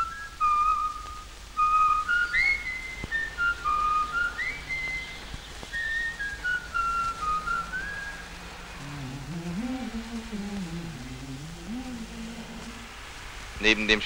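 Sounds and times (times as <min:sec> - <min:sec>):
high melody of pure tones: 0:00.0 - 0:13.0.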